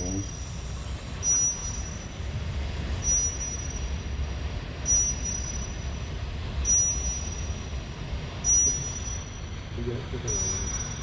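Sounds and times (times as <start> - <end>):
thin high whistle: 0.0 - 7.6, 8.4 - 9.5, 10.2 - 11.0.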